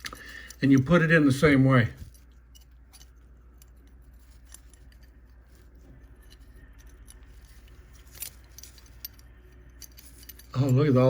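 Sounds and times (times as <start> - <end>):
low steady hum: 0.0 - 11.0
light metal clicks and scrapes: 2.0 - 11.0.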